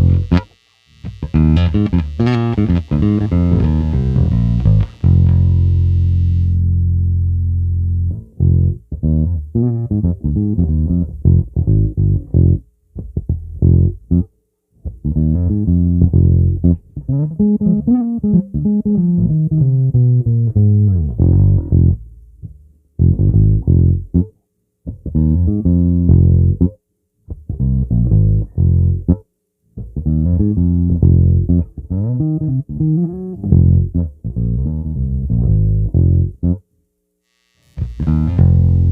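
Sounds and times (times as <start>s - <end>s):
bass guitar plucked: 0.0s - 36.6s, 37.6s - 38.9s.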